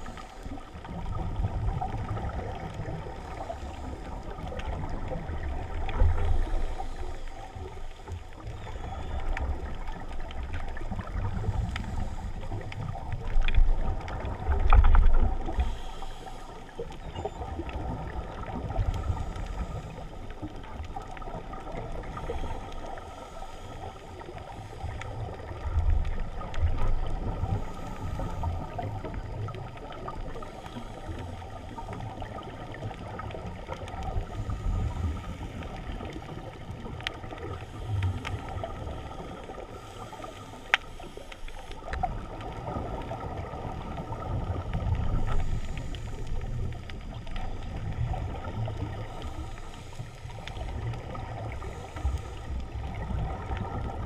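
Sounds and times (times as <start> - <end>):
muffled underwater rumbling: 0.0 - 54.0.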